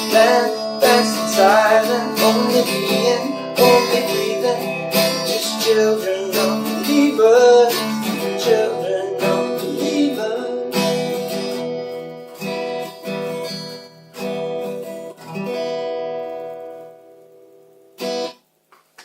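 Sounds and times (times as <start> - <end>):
acoustic guitar strumming: 0.0 - 18.5.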